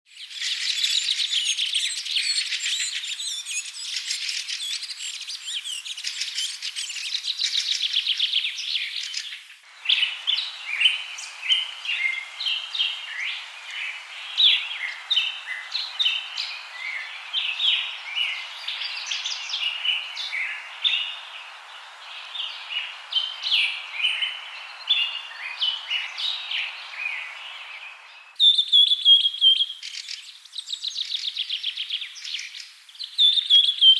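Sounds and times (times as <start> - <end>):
birds chirping and singing: 0.2 - 33.9.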